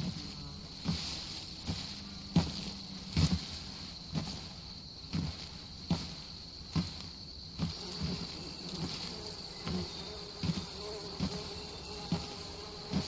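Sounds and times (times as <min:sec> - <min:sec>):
insects buzzing and chirring: 0:00.0 - 0:13.0
slow footsteps thudding: 0:00.0 - 0:13.0.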